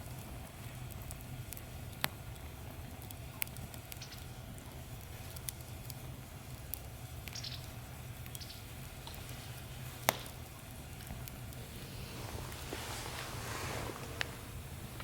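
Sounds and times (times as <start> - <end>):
low hiss: 0.0 - 15.0
wood fire crackling and popping: 0.0 - 15.0.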